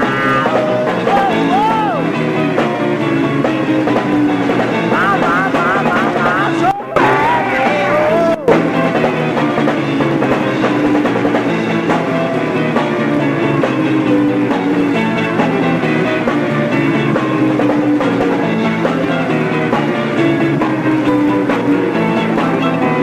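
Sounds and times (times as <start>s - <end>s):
drum kit: 0.0s - 23.0s
electric guitar: 0.0s - 23.0s.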